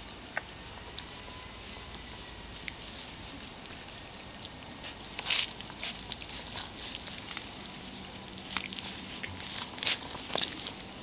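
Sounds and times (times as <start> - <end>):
puppies rustling in grass: 0.0 - 11.0.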